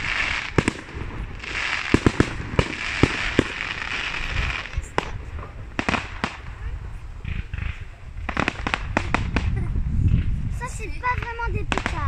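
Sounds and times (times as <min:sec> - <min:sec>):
firework shells bursting: 0:00.0 - 0:10.3
fireworks hiss: 0:00.0 - 0:12.0.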